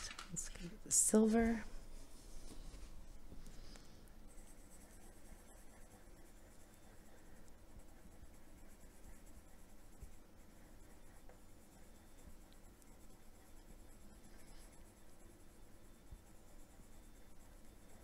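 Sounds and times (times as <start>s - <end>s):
pencil scratching on paper: 0.1s - 18.0s.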